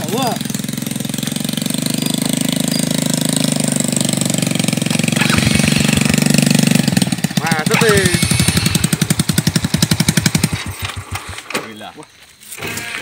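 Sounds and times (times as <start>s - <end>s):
small motorcycle engine idling: 0.0s - 11.8s
dirt bike engine: 0.0s - 12.0s.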